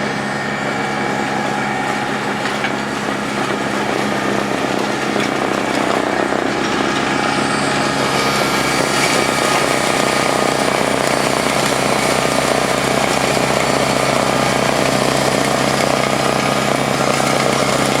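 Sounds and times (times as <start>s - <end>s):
tractor engine running under load: 0.0s - 18.0s.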